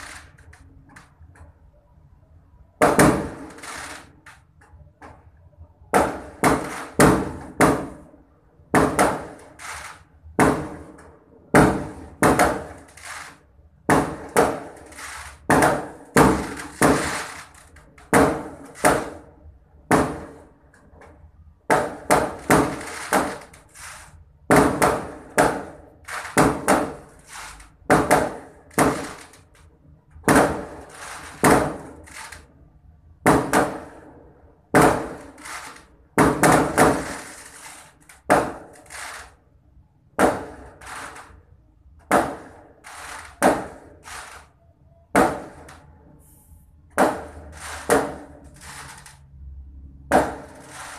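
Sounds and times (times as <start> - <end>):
fireworks bangs: 0.0 - 1.1, 2.7 - 4.4, 5.9 - 32.5, 33.2 - 39.4, 40.0 - 44.5, 45.1 - 46.3, 46.9 - 49.3, 50.0 - 50.9.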